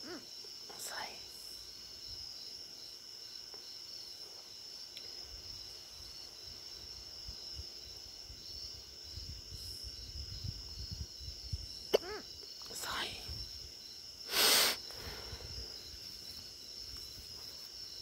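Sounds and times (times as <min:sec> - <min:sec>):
night insects chirping: 0:00.0 - 0:18.0.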